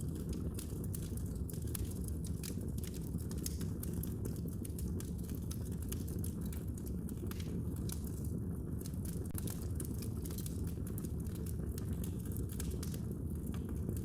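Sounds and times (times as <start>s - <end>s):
low rumble of flames: 0.0s - 14.0s
wood crackling and popping: 0.0s - 14.0s.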